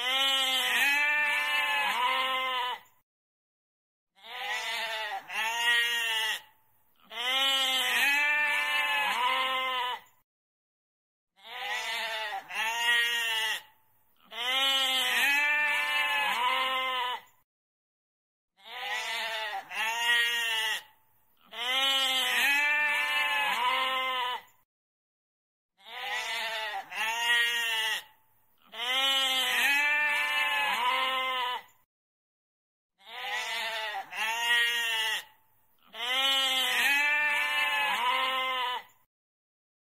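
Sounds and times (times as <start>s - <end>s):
goat bleating: 0.0s - 2.9s, 4.2s - 10.1s, 11.4s - 17.3s, 18.6s - 24.5s, 25.8s - 31.8s, 33.0s - 39.0s.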